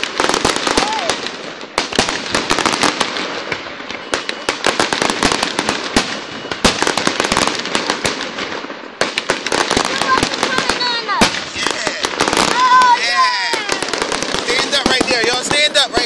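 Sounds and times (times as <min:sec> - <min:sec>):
fireworks bangs: 0:00.0 - 0:16.0
fireworks crackling pops: 0:00.0 - 0:16.0.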